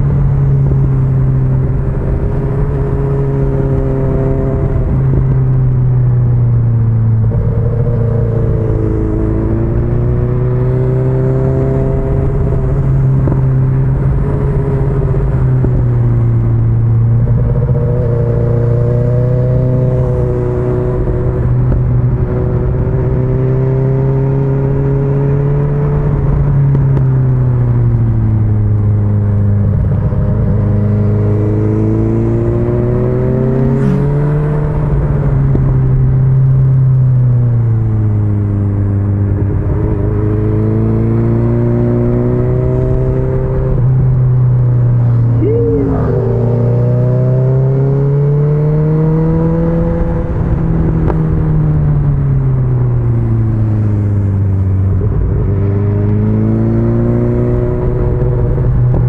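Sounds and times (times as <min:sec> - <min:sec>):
motorcycle engine running: 0:00.0 - 0:23.7, 0:25.7 - 0:57.0.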